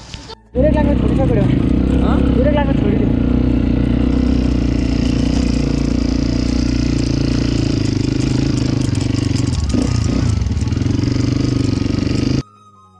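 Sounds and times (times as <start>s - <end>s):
motorcycle engine running: 0.5s - 12.4s.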